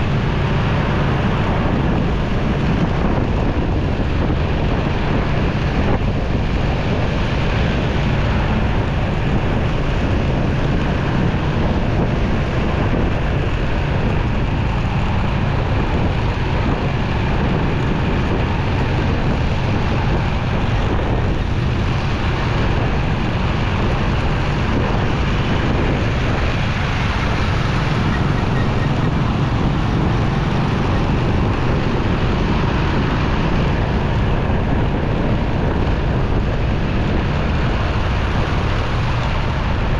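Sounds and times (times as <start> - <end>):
motorcycle road noise: 0.0 - 39.9
wind on microphone: 0.0 - 39.9.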